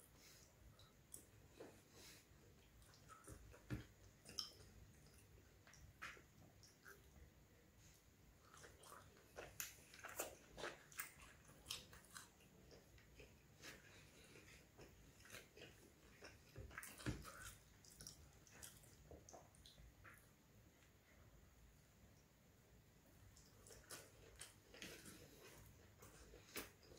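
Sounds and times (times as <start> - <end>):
person chewing food: 0.0 - 20.4, 23.2 - 26.9.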